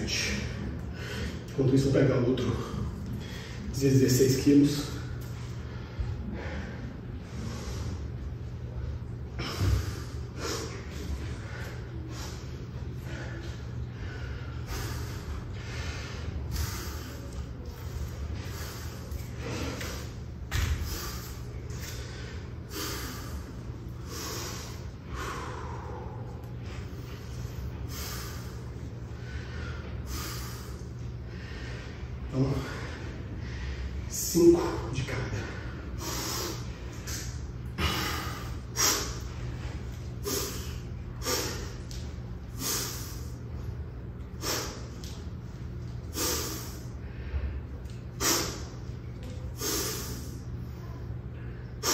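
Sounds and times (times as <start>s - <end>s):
steady low hum: 0.0s - 51.9s
man breathing hard: 0.1s - 1.6s, 2.4s - 3.8s, 4.7s - 51.9s.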